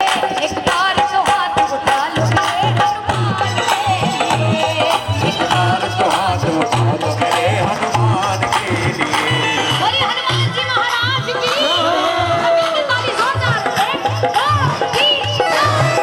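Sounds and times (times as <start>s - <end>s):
repeating drum beat: 0.0s - 16.0s.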